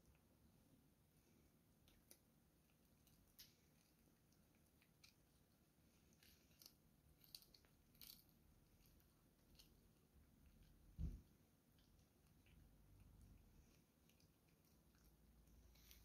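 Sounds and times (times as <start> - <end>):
cat gnawing a bone: 1.7 - 16.0.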